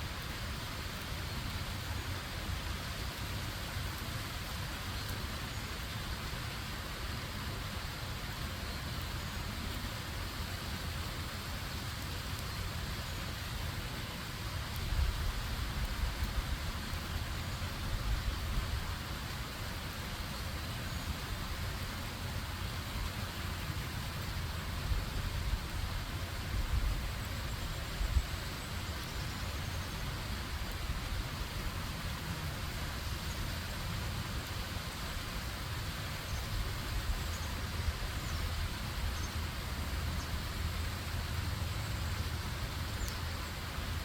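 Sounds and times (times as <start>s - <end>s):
stream water flowing: 0.0s - 44.0s.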